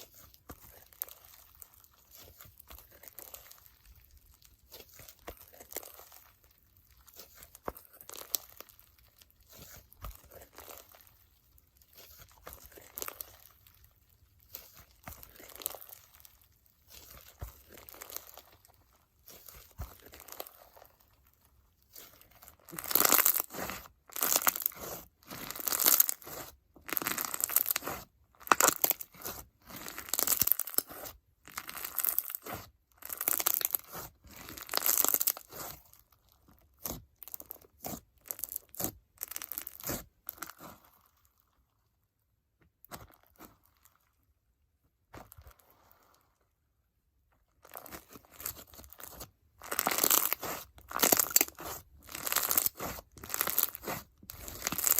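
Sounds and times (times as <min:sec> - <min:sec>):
slime crackling and popping: 0:00.1 - 0:40.9, 0:47.6 - 0:54.9.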